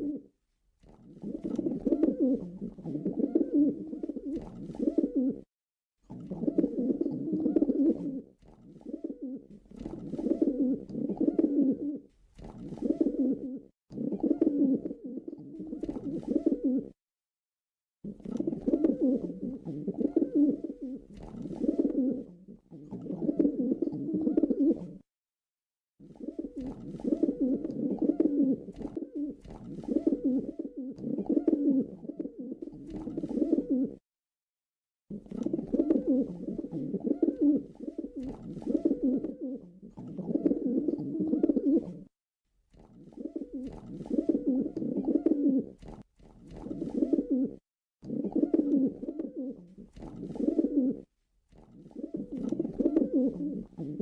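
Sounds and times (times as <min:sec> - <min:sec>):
pigeon cooing: 0:00.0 - 0:00.3, 0:01.1 - 0:05.5, 0:06.1 - 0:17.0, 0:18.1 - 0:25.0, 0:26.0 - 0:34.0, 0:35.1 - 0:42.1, 0:42.8 - 0:54.0.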